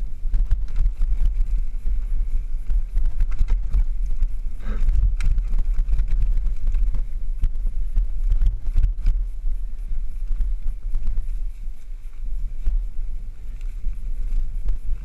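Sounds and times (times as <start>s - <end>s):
bike rattling over bumps: 0.0s - 15.0s
wind rumble on microphone: 0.0s - 15.0s.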